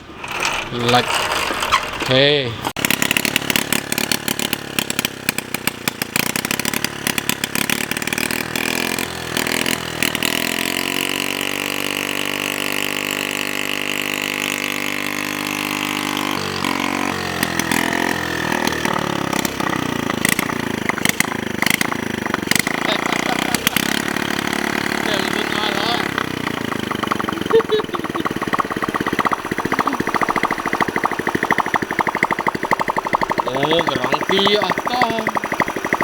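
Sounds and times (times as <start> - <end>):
small motorcycle engine running: 0.0 - 36.0.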